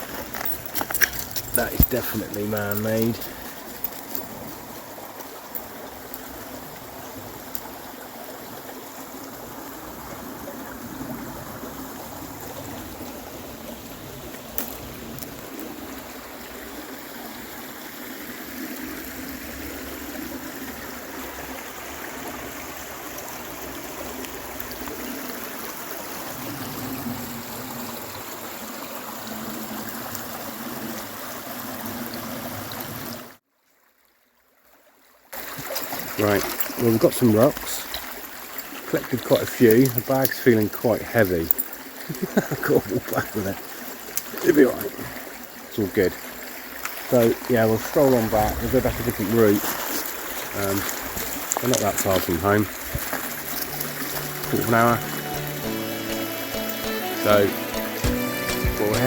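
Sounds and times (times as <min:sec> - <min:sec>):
river water over stones: 0:00.0 - 0:59.0.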